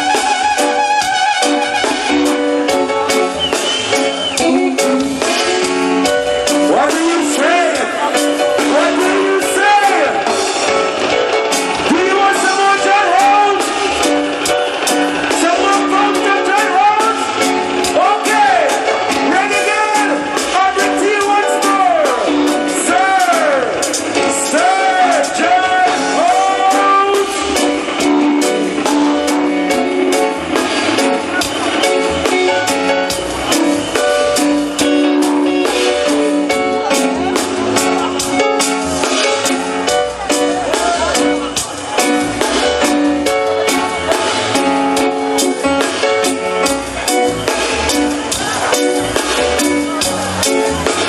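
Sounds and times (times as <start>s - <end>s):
guitar: 0.0s - 51.0s
live band music: 0.0s - 51.0s.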